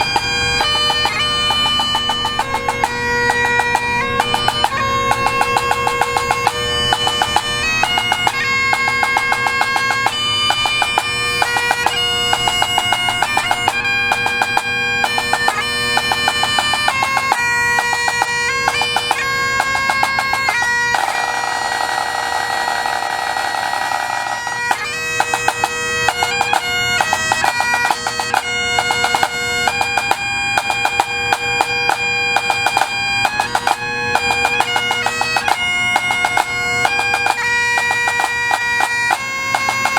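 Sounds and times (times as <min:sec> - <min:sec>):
bagpipe music: 0:00.0 - 0:39.9.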